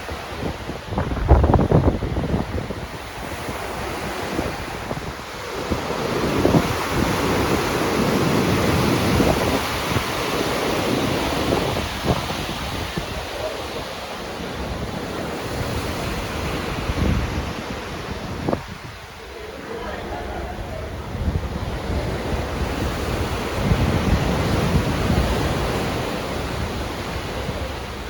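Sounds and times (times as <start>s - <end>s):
sea water rushing: 0.0s - 28.0s
wind buffeting microphone: 0.0s - 28.0s.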